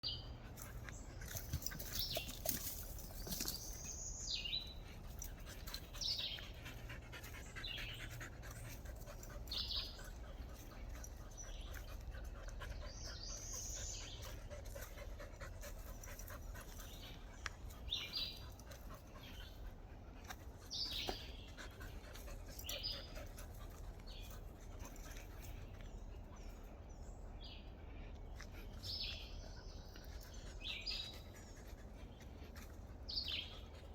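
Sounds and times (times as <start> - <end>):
birds chirping: 0.0 - 33.9
dog panting: 4.6 - 26.8, 27.6 - 33.9.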